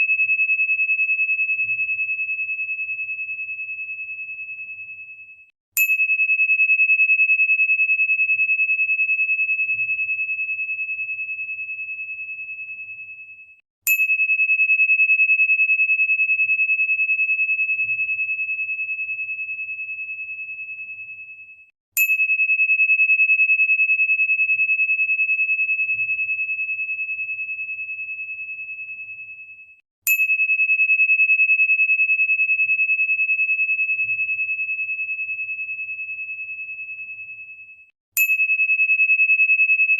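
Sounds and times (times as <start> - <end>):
high bell tone: 0.0 - 39.9.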